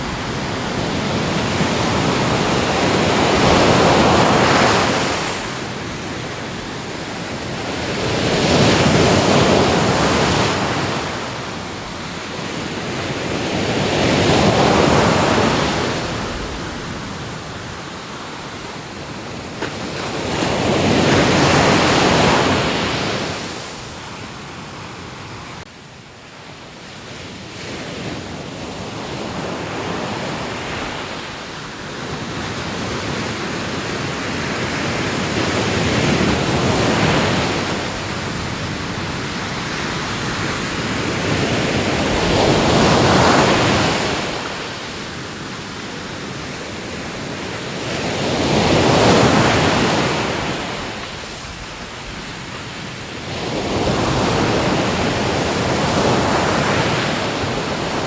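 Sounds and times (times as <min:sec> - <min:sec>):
waves washing onto shore: 0:00.0 - 0:25.6, 0:26.4 - 0:58.0.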